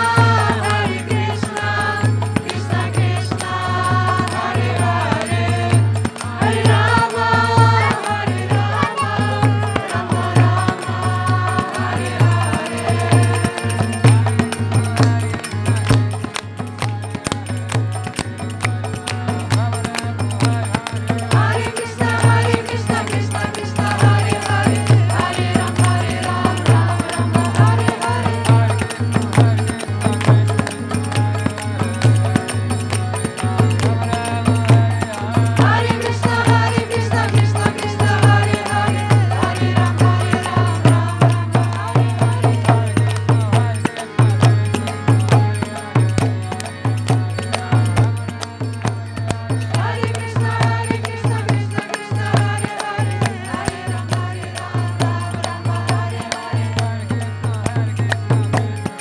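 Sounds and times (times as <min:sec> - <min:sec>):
held melodic notes: 0:00.0 - 0:49.1
devotional music: 0:00.0 - 0:59.0
jingling hand cymbals: 0:00.0 - 0:59.0.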